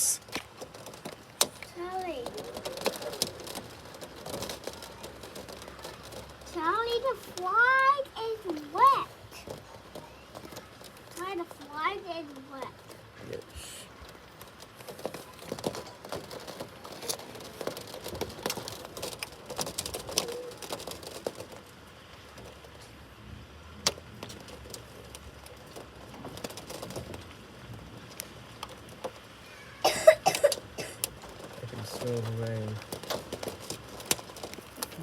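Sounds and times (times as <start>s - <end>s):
hailstones striking hard surfaces: 0.0s - 35.0s.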